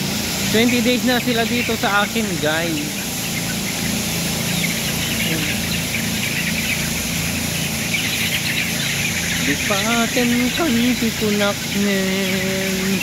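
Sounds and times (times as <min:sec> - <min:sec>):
ventilation fans humming: 0:00.0 - 0:13.0
chicks cheeping: 0:00.1 - 0:13.0.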